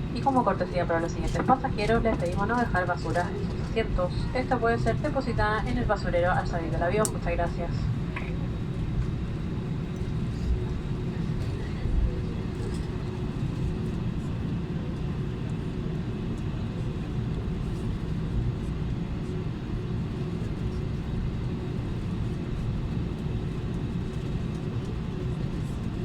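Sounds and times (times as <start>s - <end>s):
aircraft cabin rumble: 0.0s - 26.0s.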